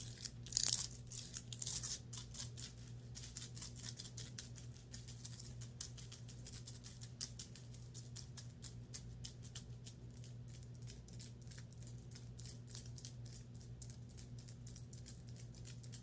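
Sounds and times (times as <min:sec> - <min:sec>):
scratching on clothing: 0:00.0 - 0:13.4
steady low hum: 0:00.0 - 0:16.0.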